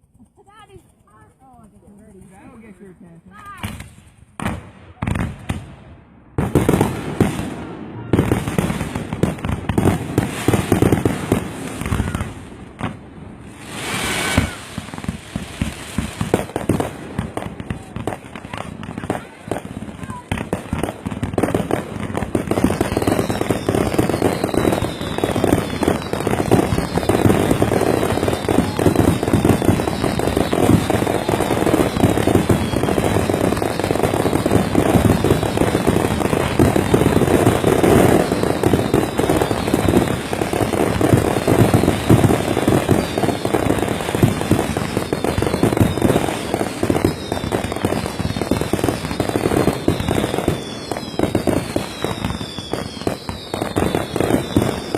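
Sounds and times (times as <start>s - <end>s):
fireworks barrage bangs and crackling: 0.0s - 54.9s.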